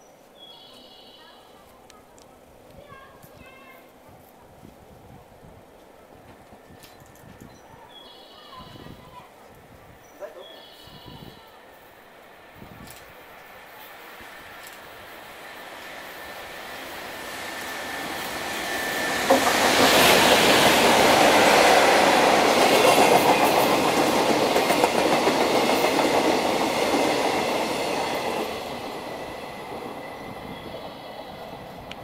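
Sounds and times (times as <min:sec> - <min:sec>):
freight train passing: 0:00.0 - 0:32.0.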